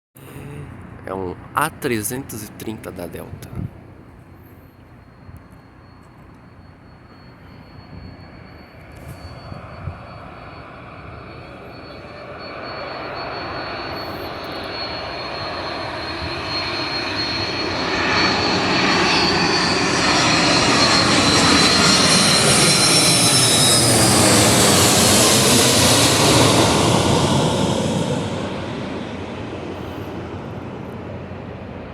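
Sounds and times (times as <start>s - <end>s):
jet airliner passing overhead: 0.2s - 31.9s.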